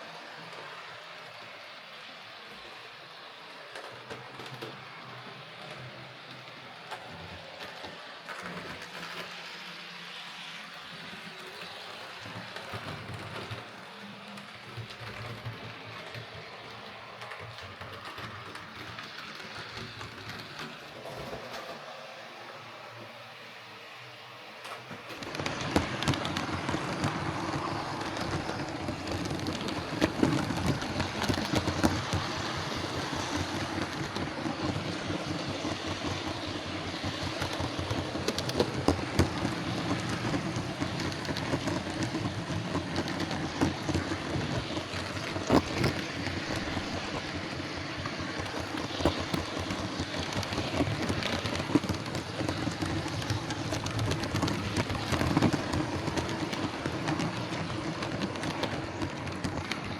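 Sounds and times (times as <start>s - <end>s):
model train motor whirring: 0.0s - 59.9s
wheels rattling on rails: 0.0s - 59.9s.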